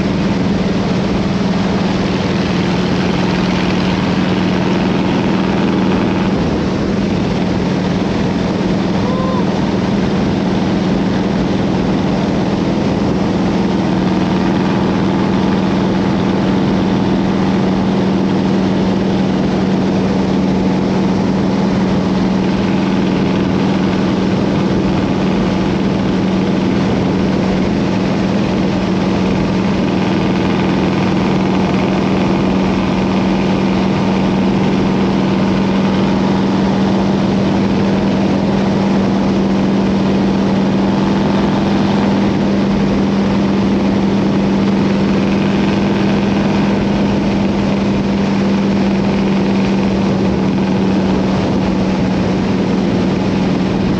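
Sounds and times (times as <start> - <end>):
motorcycle engine droning: 0.0 - 53.9.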